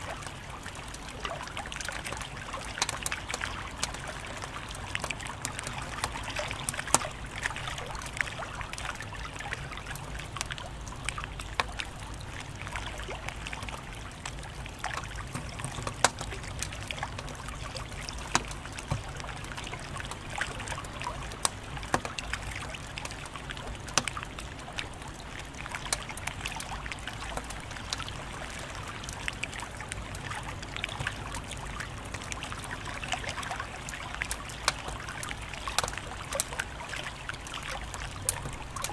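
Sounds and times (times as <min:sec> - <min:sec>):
wood fire crackling: 0:00.3 - 0:38.9.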